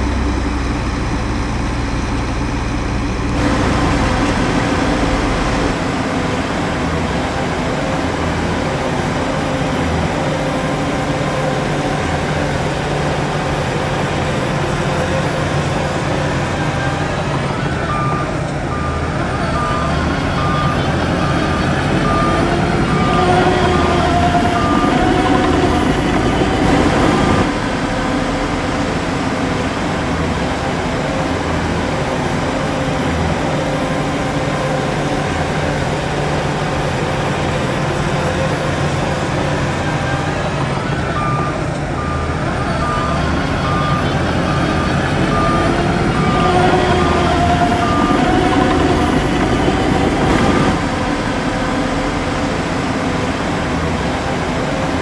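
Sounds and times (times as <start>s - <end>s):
reversing alarm beeping: 0.0s - 51.6s
diesel earthmoving machinery running: 0.0s - 55.0s.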